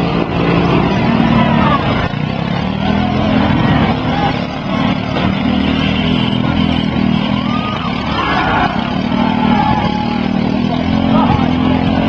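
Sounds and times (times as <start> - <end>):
riding lawn mower engines running: 0.0 - 12.0.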